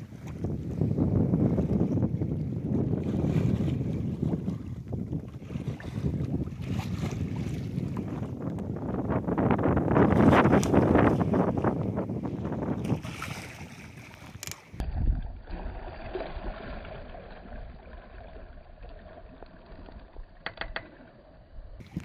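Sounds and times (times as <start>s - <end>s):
water rushing along hull: 0.0s - 22.0s
wind on microphone: 0.0s - 22.0s.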